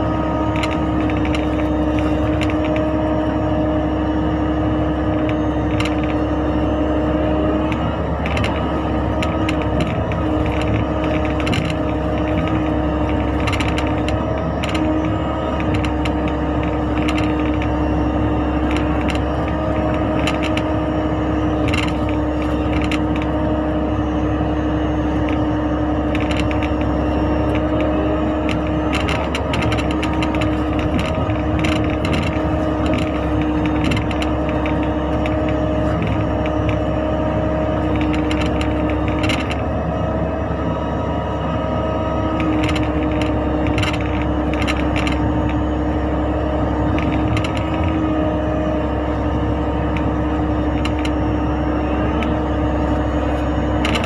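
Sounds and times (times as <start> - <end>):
diesel engine running: 0.0 - 54.0
steady whine: 0.0 - 54.0.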